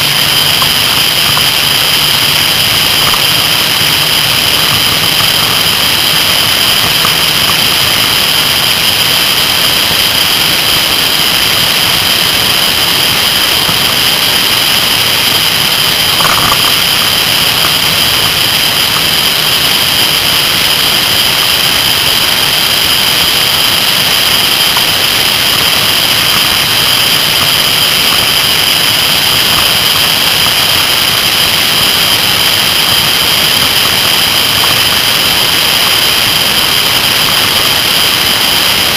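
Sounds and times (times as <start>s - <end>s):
motorcycle engine at speed: 0.0s - 38.9s
wind and road noise: 0.0s - 38.9s.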